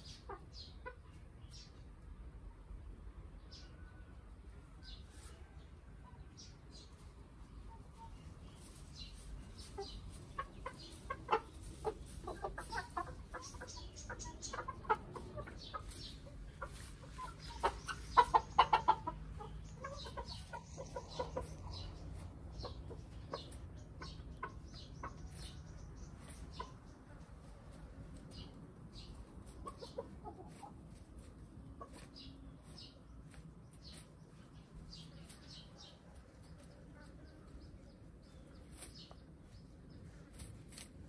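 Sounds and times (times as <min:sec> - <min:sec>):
hens and rooster clucking: 0:00.0 - 0:41.0.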